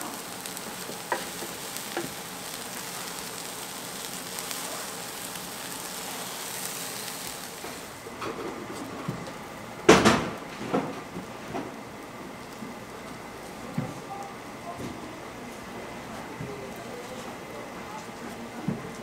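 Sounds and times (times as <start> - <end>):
food sizzling on griddle: 0.0 - 18.0.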